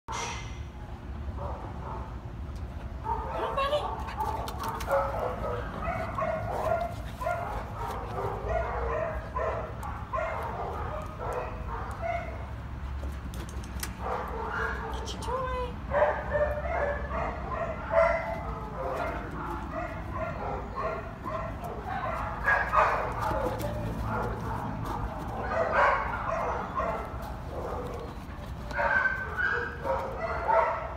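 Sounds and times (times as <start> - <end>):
dogs barking and yipping: 2.9 - 15.2, 15.9 - 30.9.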